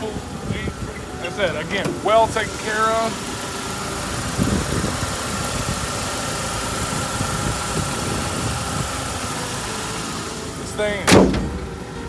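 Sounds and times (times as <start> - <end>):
car engine idling: 0.0 - 12.0
thin steady whine: 0.0 - 12.0.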